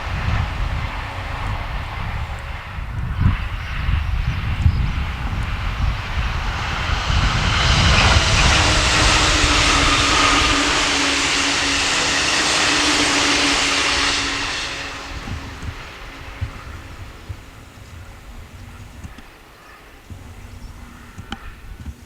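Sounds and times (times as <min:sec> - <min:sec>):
constant hum: 0:00.0 - 0:22.0
train passing at speed: 0:00.0 - 0:22.0.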